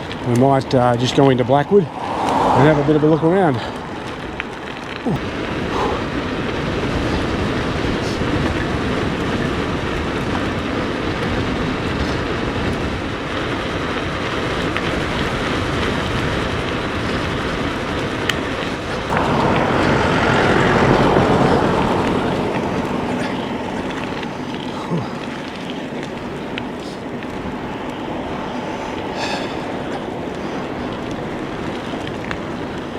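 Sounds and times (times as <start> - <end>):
bike tyre rumble: 0.0 - 32.9
wind on microphone: 0.0 - 32.9.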